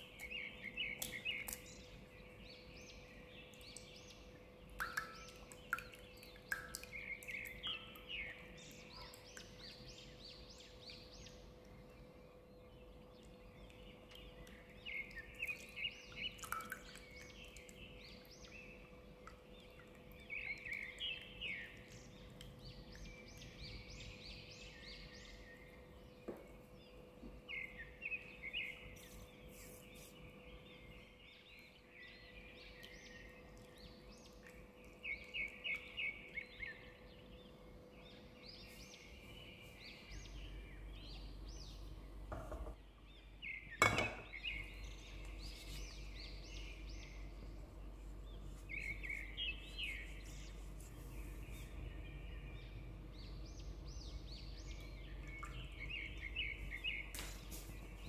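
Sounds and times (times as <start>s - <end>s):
faint hum: 0.0s - 58.0s
small birds chirping: 0.0s - 58.0s.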